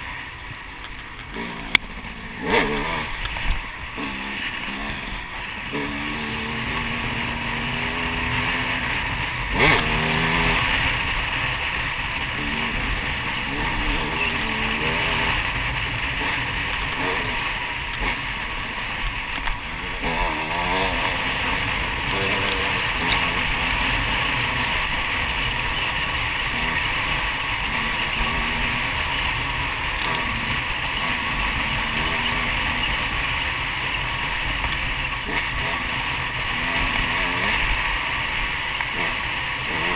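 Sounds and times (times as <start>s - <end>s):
wind and riding noise: 0.0s - 39.9s
dirt bike engine revving: 1.2s - 39.9s.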